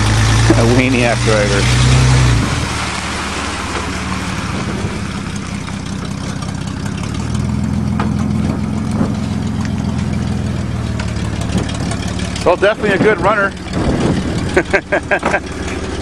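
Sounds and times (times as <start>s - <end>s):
pickup engine idling: 0.0s - 16.0s.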